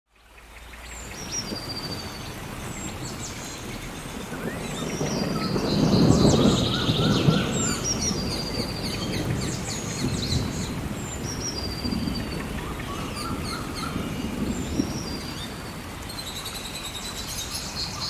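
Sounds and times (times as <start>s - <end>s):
steady rain: 0.1s - 18.0s
thunder rumble: 1.0s - 17.7s
birds whistling and chirping: 1.0s - 18.0s.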